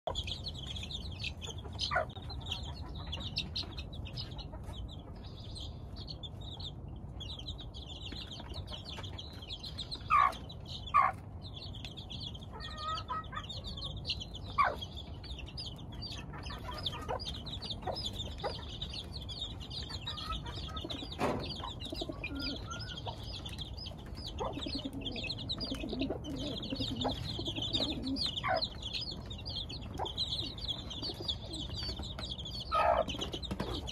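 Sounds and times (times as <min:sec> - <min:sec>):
chicks peeping: 0:00.0 - 0:33.9
hen clucking: 0:00.1 - 0:33.9.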